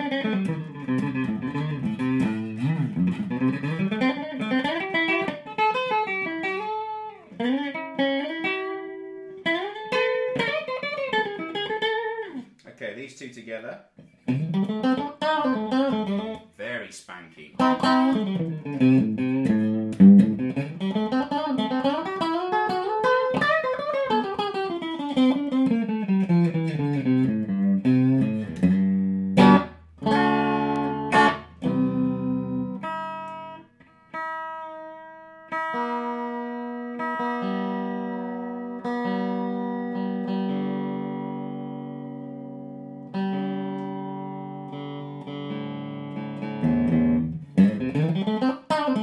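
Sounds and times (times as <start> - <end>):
clean electric guitar: 0.0 - 12.8, 14.0 - 16.6, 17.3 - 49.0.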